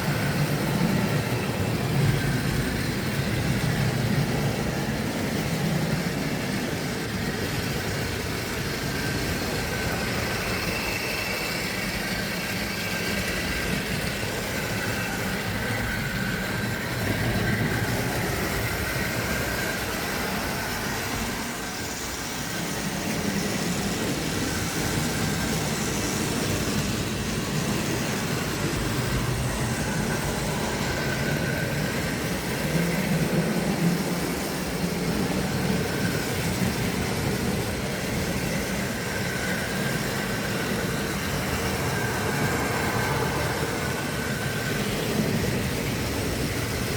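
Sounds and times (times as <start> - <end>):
model train running on track: 0.0 - 46.9.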